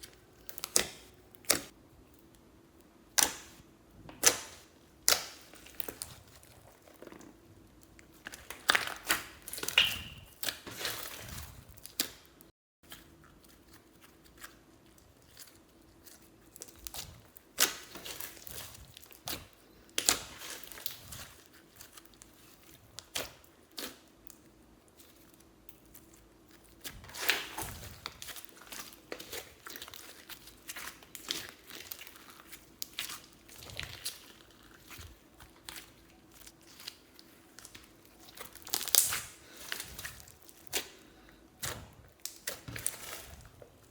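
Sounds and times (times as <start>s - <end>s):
slime crackling and popping: 0.0s - 1.8s, 3.1s - 12.4s, 15.3s - 43.9s.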